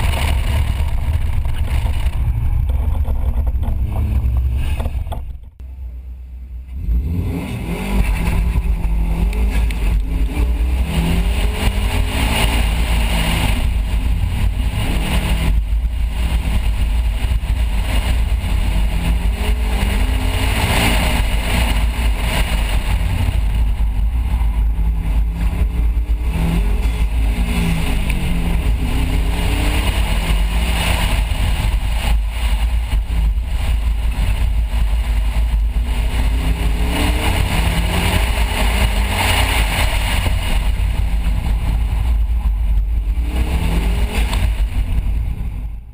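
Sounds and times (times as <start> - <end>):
car engine revving hard: 6.7 - 45.7.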